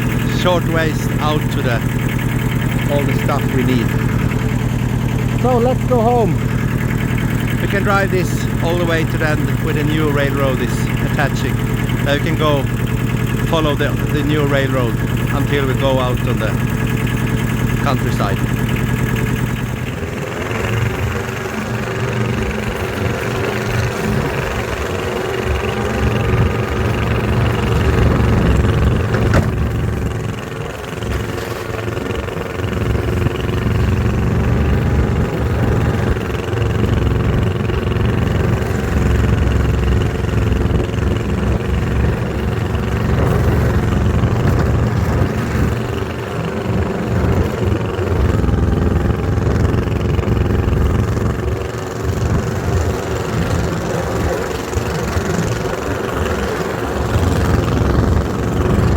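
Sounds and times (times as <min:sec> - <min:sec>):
snowmobile engine running: 0:00.0 - 0:58.9.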